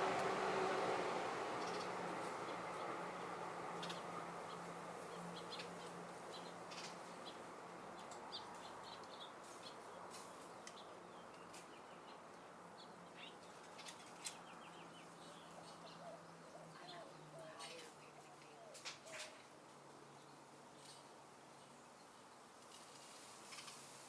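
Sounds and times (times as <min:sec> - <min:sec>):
faint wind: 0:00.0 - 0:24.0
small birds chirping: 0:01.5 - 0:24.0.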